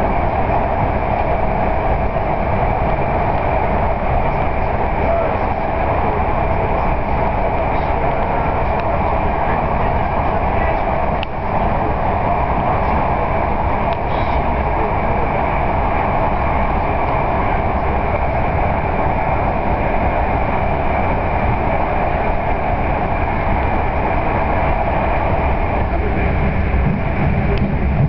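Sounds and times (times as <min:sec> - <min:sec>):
train rumble and rail noise: 0:00.0 - 0:28.0.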